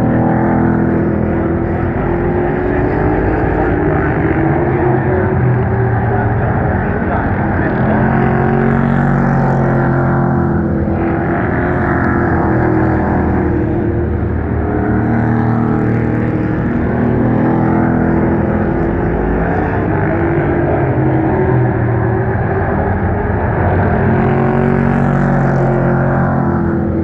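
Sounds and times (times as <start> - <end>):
race truck engines: 0.0 - 27.0.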